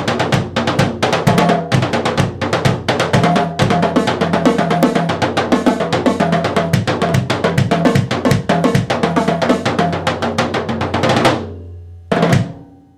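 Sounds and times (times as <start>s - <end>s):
roto toms struck rapidly: 0.0s - 11.5s.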